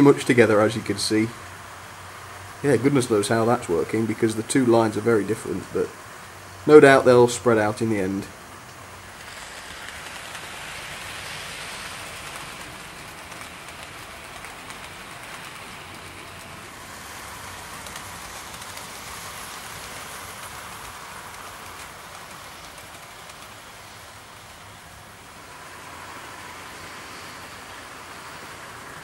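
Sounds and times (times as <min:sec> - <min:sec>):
model train wheels rolling on rails: 0:00.0 - 0:29.0.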